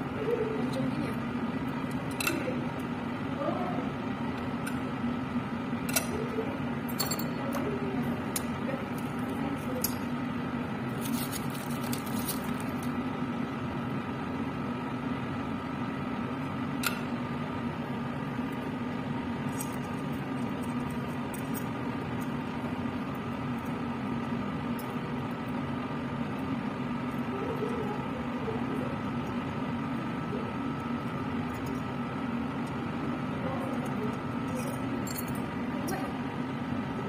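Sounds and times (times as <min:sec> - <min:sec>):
blower fan humming: 0:00.0 - 0:37.0.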